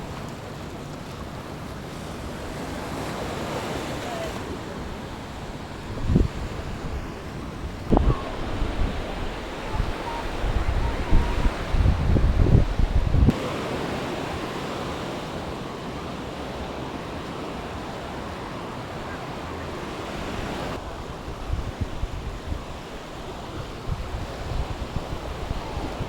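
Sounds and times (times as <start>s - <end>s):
sea surf washing on beach: 0.0s - 26.0s
wind rumbling on microphone: 0.0s - 26.0s.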